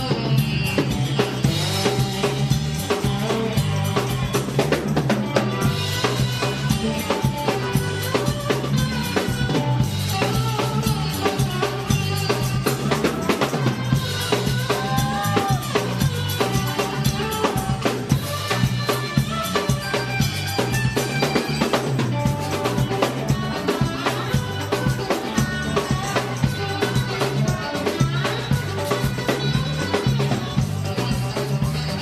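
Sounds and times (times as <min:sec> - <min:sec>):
live band playing funk ska: 0:00.0 - 0:32.0.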